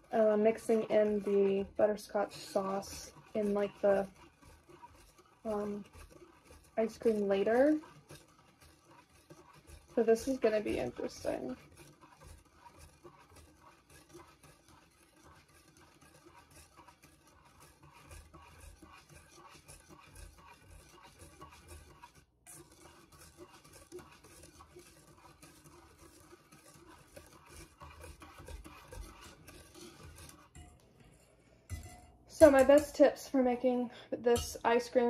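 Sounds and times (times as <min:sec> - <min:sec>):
whisk scraping a metal bowl: 0:00.0 - 0:35.0.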